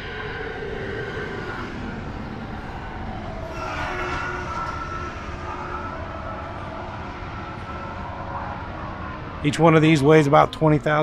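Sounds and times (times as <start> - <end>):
high whining tone: 0.0 - 10.0.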